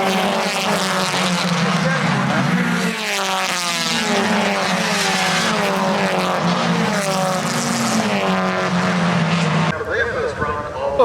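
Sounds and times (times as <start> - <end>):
race cars passing at full throttle: 0.0 - 11.0.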